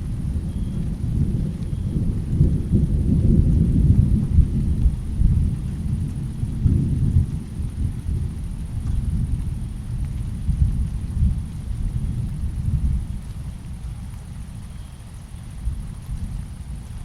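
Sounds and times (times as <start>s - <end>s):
rolling thunder: 0.0s - 14.7s.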